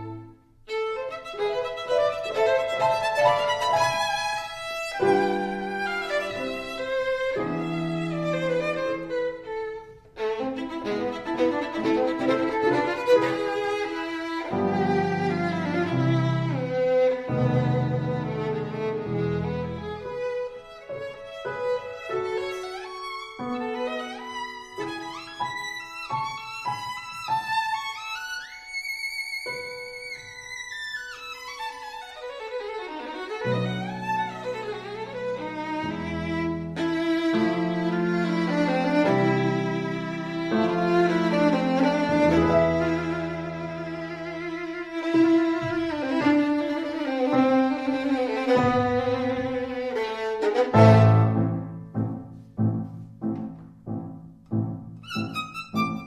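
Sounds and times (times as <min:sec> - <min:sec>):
violin melody with sliding notes: 0:00.0 - 0:56.0
instrumental background music: 0:01.0 - 0:56.0.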